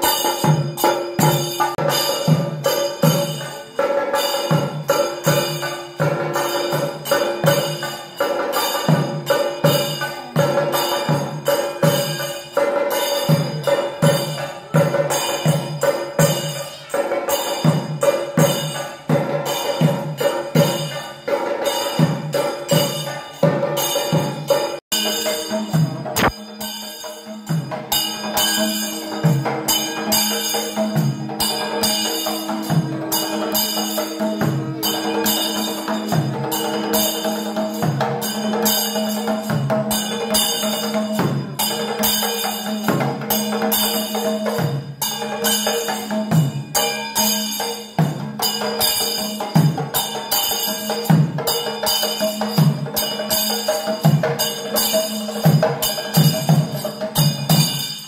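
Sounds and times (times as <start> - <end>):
metallic cymbal strikes: 0.0 - 58.0.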